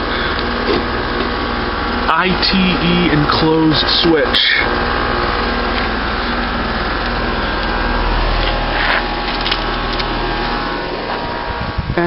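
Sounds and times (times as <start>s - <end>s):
heat pump unit humming: 0.0s - 12.0s.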